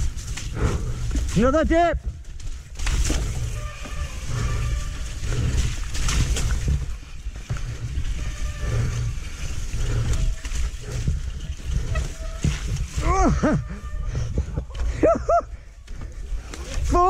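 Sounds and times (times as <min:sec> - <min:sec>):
mountain bike rumble and rattling: 0:00.0 - 0:17.0.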